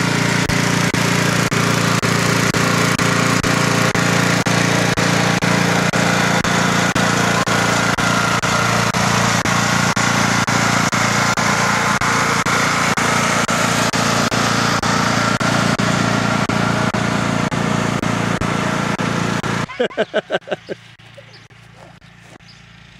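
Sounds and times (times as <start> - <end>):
riding lawn mower engine: 0.0 - 22.9.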